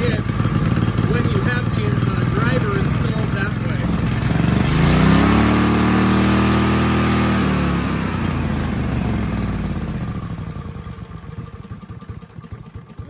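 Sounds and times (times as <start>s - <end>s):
go-kart engine revving: 0.0s - 13.0s.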